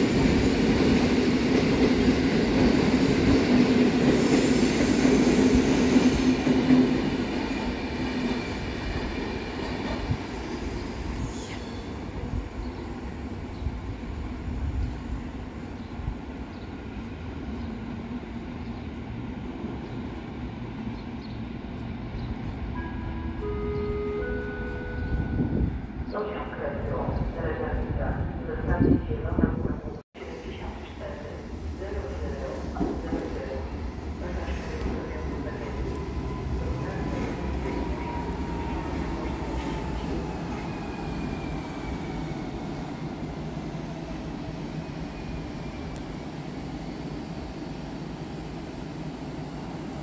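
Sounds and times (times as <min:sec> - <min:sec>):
passenger train rumbling: 0:00.0 - 0:50.0.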